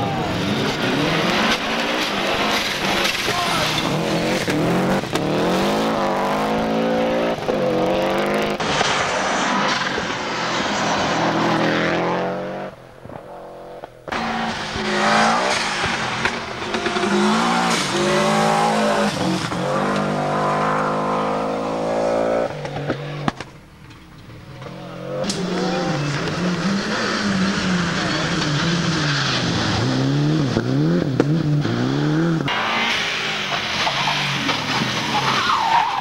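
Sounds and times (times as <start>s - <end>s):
rally car engine revving hard: 0.0s - 23.2s, 25.0s - 35.7s.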